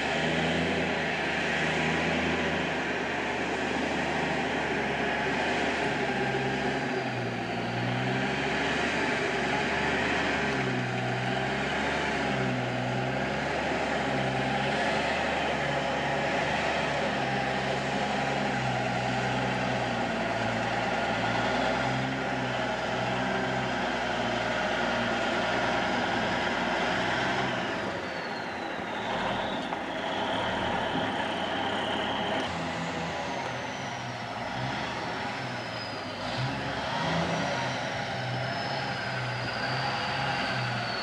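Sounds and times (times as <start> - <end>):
truck diesel engine running: 0.0 - 41.0.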